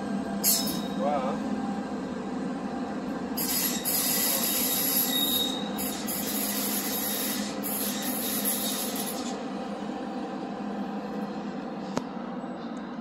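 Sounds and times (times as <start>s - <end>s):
train passing on tracks: 0.0s - 13.0s.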